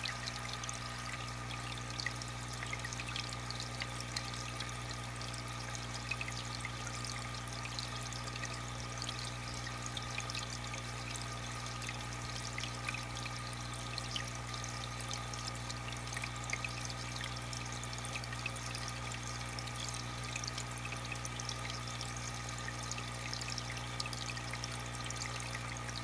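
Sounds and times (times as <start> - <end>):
filter pump humming: 0.0 - 26.0
water trickling and bubbling: 0.0 - 26.0.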